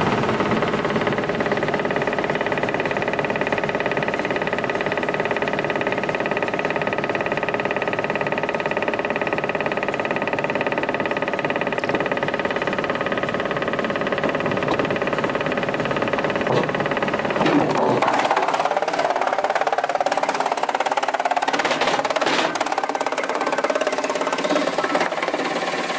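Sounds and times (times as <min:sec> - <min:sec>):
wood chipper droning: 0:00.0 - 0:25.9.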